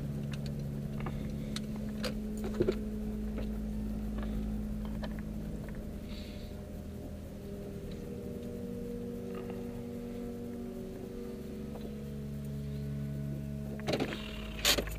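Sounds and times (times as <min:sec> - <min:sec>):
car engine hum inside cabin: 0:00.0 - 0:14.9.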